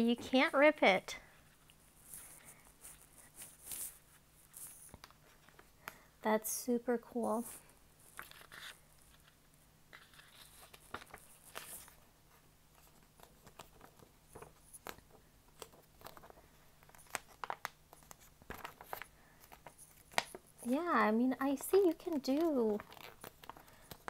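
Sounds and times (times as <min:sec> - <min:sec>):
paper crackling: 0:01.5 - 0:05.7, 0:08.0 - 0:12.0, 0:12.8 - 0:24.0.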